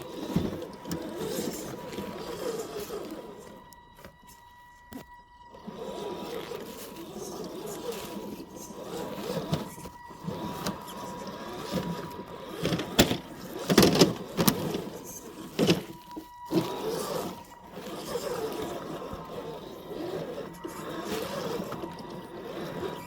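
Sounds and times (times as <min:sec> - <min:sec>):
rc car electric motor whining: 0:00.0 - 0:23.0.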